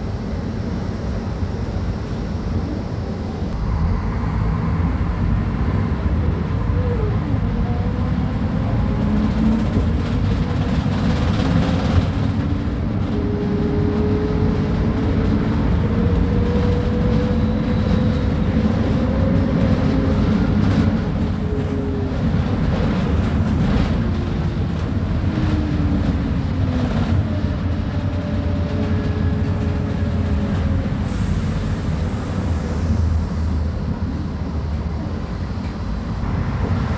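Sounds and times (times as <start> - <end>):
diesel bus engine rumbling: 0.0 - 36.9.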